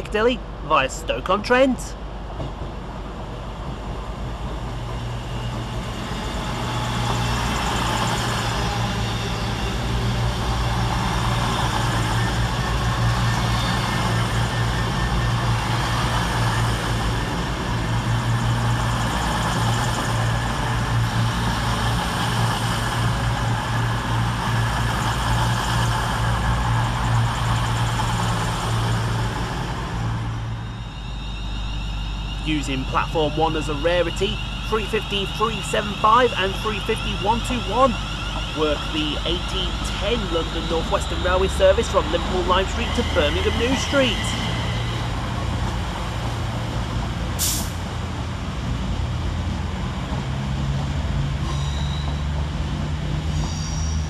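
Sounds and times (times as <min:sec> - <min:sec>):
diesel engines droning: 0:00.0 - 0:54.0
train wheel and rail noise: 0:00.0 - 0:54.0.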